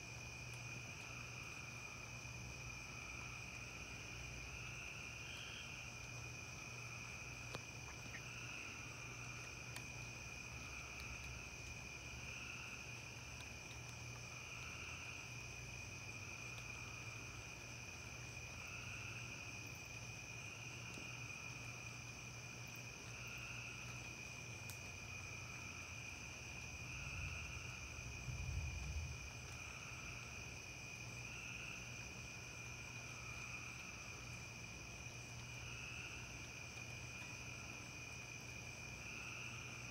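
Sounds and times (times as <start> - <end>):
crickets trilling: 0.0 - 39.9
insect call: 0.0 - 39.9.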